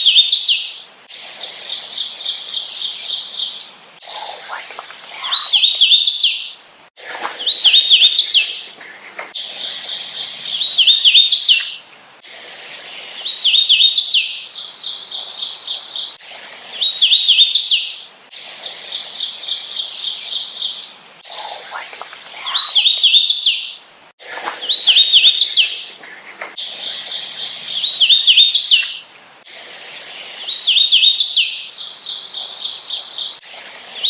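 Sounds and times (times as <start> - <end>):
warbler singing: 1.5 - 11.9, 12.6 - 29.1, 30.0 - 34.0.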